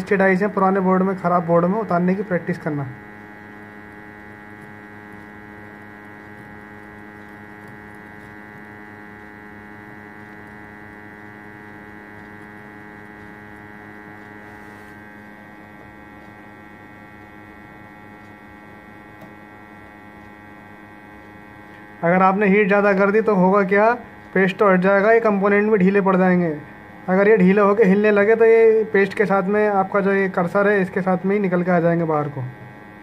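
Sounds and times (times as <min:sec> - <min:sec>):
hot-air station electrical hum: 0:00.0 - 0:33.0.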